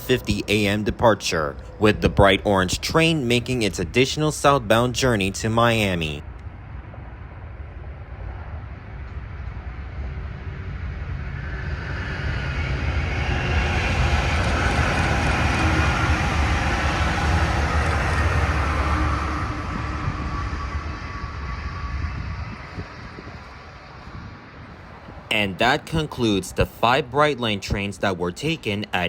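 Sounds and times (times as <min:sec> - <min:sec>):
train passing at speed: 0:00.0 - 0:28.9.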